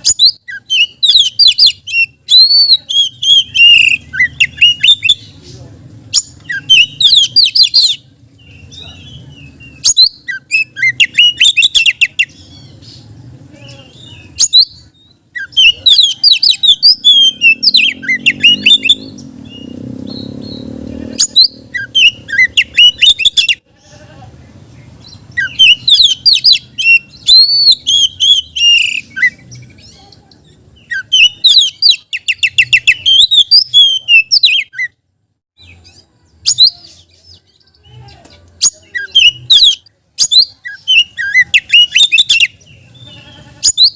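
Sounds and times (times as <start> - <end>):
bird singing whistles and trills: 0.0 - 5.2, 6.2 - 13.1, 14.0 - 23.6, 25.0 - 30.0, 30.8 - 35.0, 35.6 - 37.9, 38.6 - 43.9.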